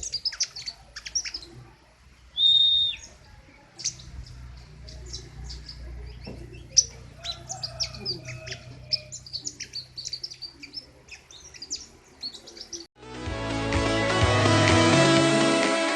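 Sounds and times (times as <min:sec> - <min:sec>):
songbird chirping and trilling: 0:00.0 - 0:13.0.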